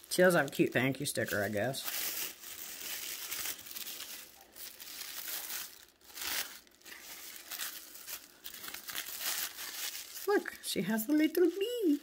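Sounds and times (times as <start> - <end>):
paper and plastic crinkling: 0.0 - 12.0.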